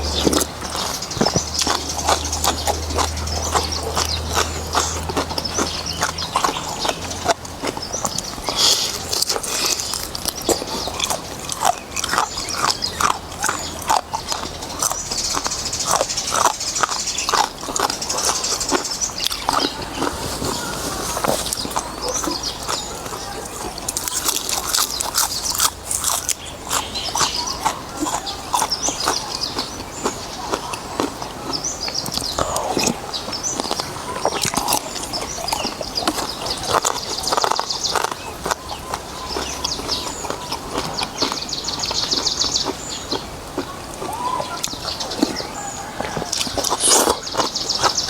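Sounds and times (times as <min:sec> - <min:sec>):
person slurping and chewing noodles: 0:00.0 - 0:48.0.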